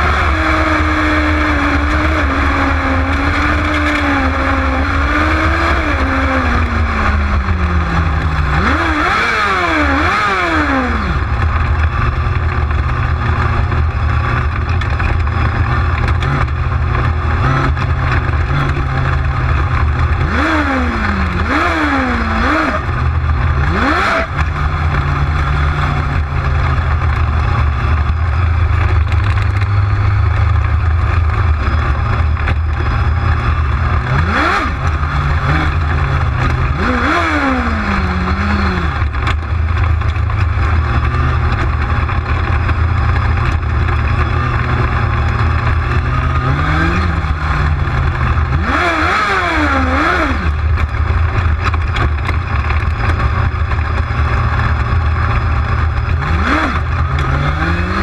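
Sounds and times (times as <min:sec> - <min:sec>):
engine rev blips: 0:00.0 - 0:58.0
race car engine: 0:00.0 - 0:58.0.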